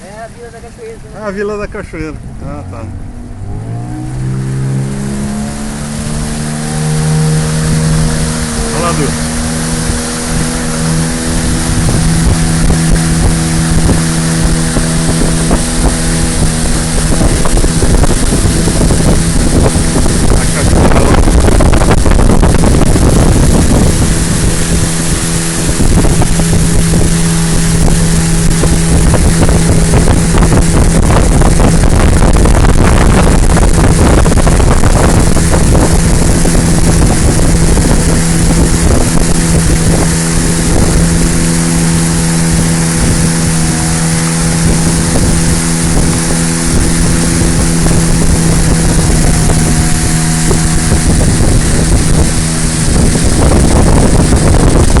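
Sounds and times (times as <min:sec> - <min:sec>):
motorboat engine running: 0:00.0 - 0:55.0
wind on microphone: 0:01.3 - 0:55.0.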